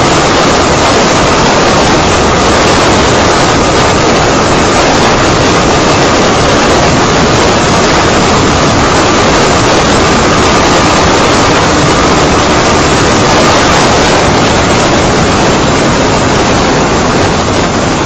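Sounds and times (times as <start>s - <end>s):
faint steady whine: 0.0s - 18.0s
wind roaring over microphone: 0.0s - 18.0s.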